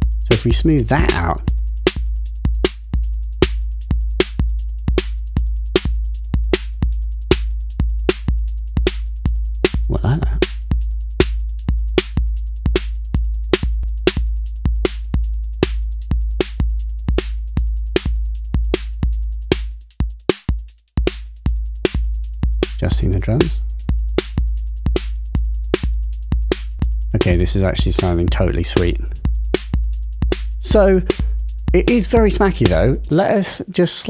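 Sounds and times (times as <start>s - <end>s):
heavy bass drum: 0.0s - 33.1s
electronic drum loop: 0.0s - 33.2s.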